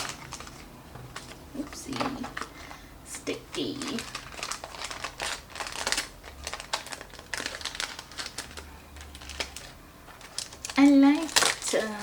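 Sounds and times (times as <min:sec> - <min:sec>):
paper and packaging crinkling: 0:00.0 - 0:12.0.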